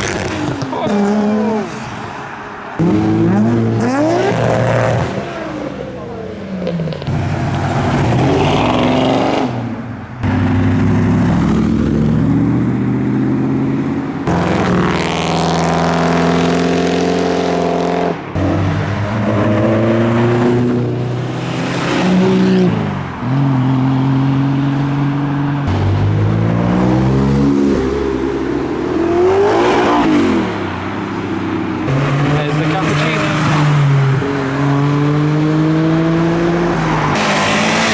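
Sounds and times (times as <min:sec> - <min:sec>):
car engines revving and accelerating: 0:00.0 - 0:37.9.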